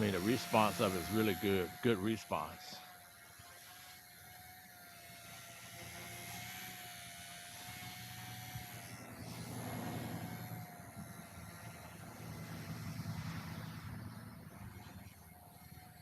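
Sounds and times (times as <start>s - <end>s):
toy helicopter motors whining: 0.0s - 16.0s.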